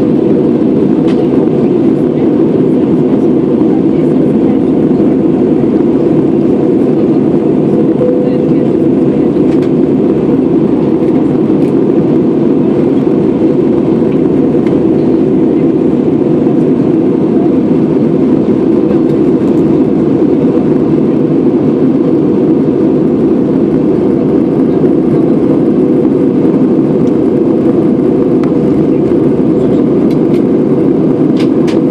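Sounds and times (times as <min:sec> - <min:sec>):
airliner cabin engine drone: 0:00.0 - 0:31.9.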